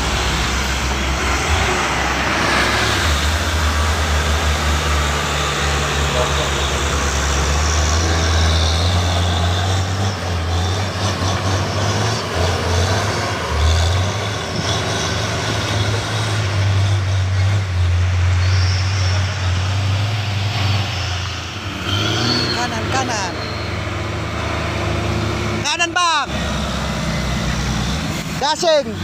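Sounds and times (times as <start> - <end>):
heavy truck engine under load: 0.0 - 29.0.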